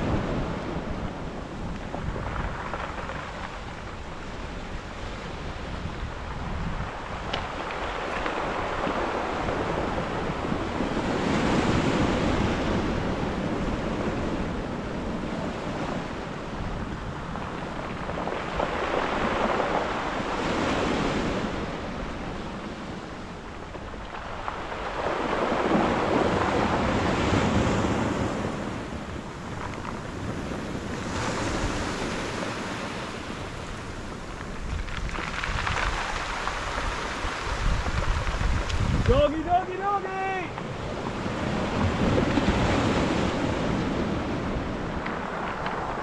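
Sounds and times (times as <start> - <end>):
waves breaking on shingle beach: 0.0 - 46.0.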